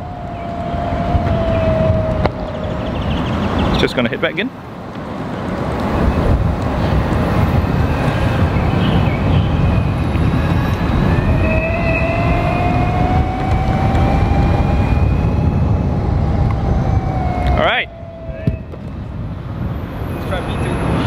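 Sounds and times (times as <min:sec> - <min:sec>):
electric skateboard rolling rumble: 0:00.0 - 0:03.8, 0:04.6 - 0:21.0
drivetrain whine rising: 0:00.0 - 0:04.0, 0:07.4 - 0:21.0.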